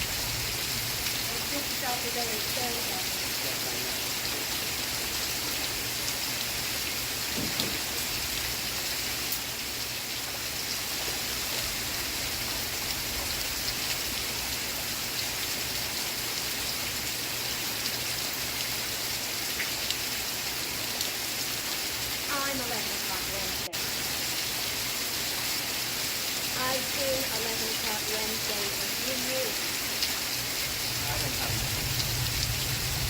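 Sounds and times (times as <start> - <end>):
steady rain hiss: 0.0 - 33.0.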